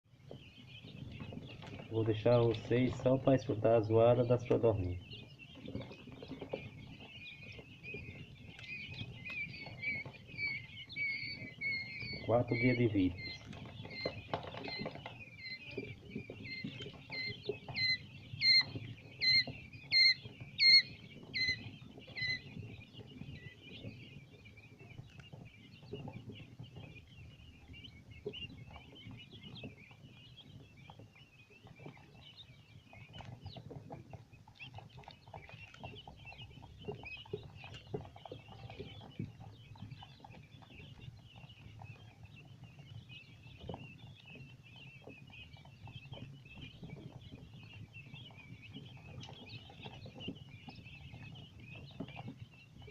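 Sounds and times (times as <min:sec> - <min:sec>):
quail chicks peeping: 0:00.1 - 0:52.9.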